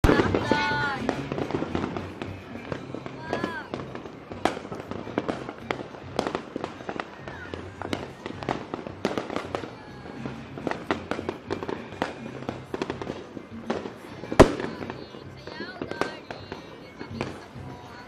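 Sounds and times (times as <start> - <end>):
fireworks bangs and pops: 0.0 - 18.0.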